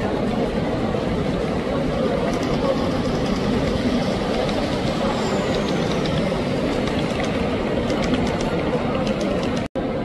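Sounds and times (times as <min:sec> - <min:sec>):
hubbub of exhibition hall crowd: 0:00.0 - 0:10.0
model train running on track: 0:00.0 - 0:10.0.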